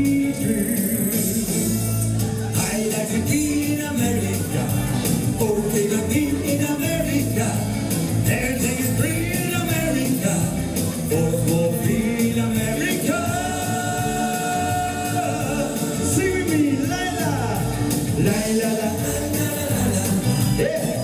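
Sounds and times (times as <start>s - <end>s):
instrumental music: 0.0s - 21.0s
man singing into microphone: 0.0s - 21.0s.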